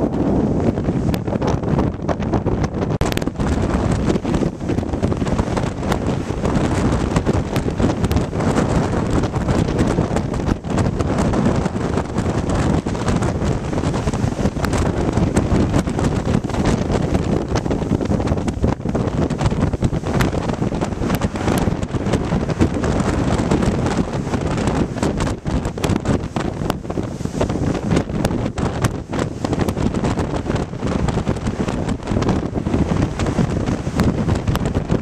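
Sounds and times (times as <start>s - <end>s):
sea surging: 0.0s - 35.0s
storm wind buffeting microphone: 0.0s - 35.0s.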